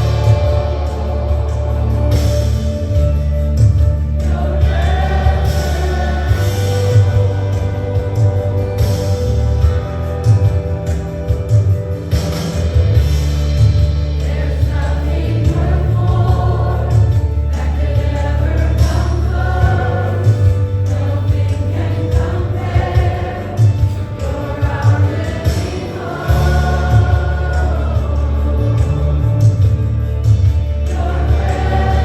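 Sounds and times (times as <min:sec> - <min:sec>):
voices singing: 0:00.0 - 0:09.6, 0:14.1 - 0:32.0
church band playing: 0:00.0 - 0:32.0.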